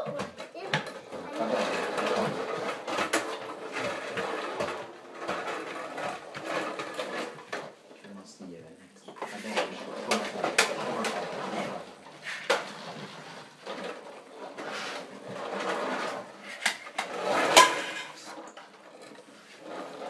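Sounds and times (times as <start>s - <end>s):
toy trucks clattering on wooden floor: 0.0s - 8.2s, 9.1s - 20.0s.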